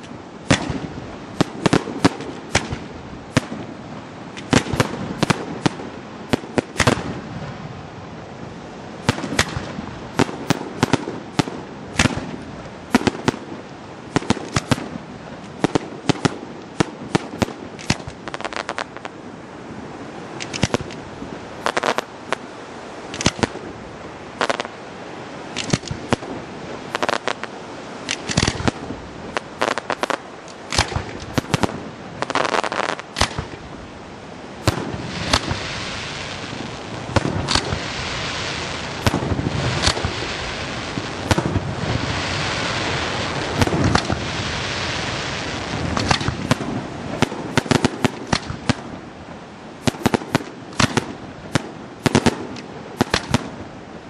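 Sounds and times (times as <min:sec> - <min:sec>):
fireworks bursting: 0:00.0 - 0:07.5, 0:08.9 - 0:19.2, 0:20.2 - 0:23.8, 0:24.4 - 0:24.8, 0:25.4 - 0:33.8, 0:34.5 - 0:53.7
steady rush of noise: 0:00.0 - 0:54.0.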